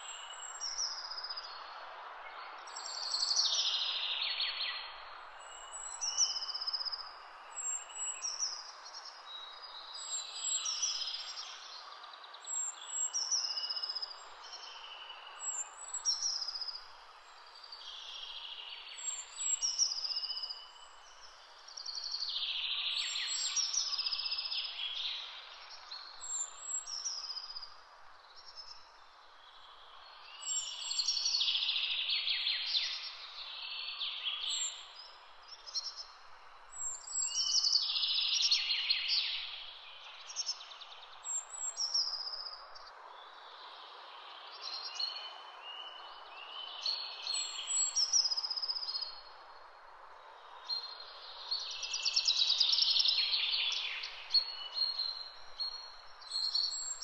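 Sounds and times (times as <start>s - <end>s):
low background hiss: 0.0s - 57.0s
songbirds singing: 0.0s - 57.0s.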